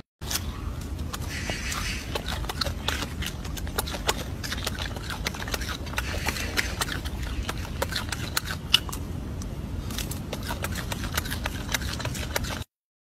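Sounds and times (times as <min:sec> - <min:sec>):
monkey chewing fruit: 0:00.3 - 0:12.7
steady low rumble: 0:00.5 - 0:12.2.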